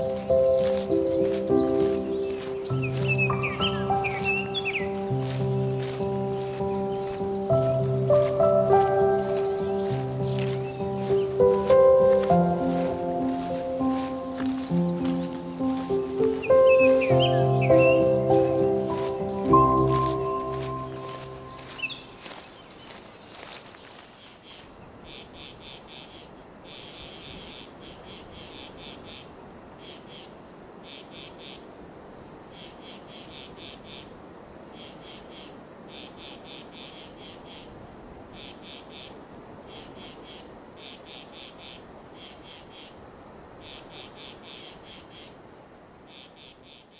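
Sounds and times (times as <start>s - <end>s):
insect rapid pulses: 0.0s - 46.9s
insects trilling: 0.0s - 46.9s.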